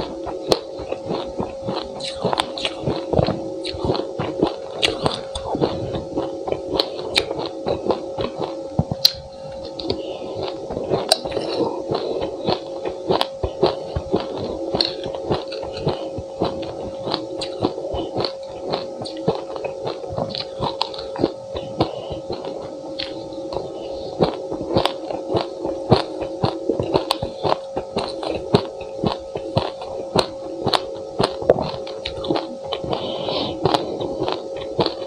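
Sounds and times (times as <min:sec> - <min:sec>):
chewing crunchy seeds: 0:00.0 - 0:35.0
steady hum: 0:00.0 - 0:35.0.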